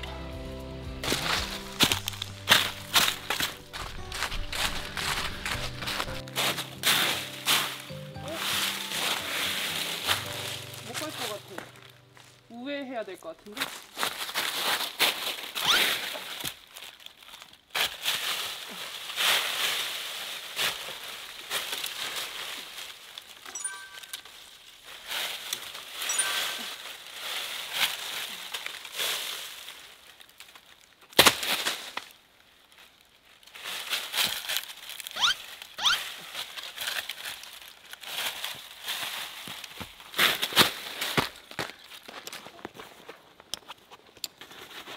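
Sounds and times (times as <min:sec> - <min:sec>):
dry leaves crunching and rustling: 0:01.0 - 0:43.0.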